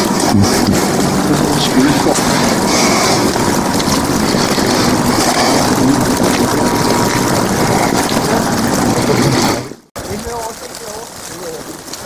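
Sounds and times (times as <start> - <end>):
wind rumbling on microphone: 0.0 - 10.3.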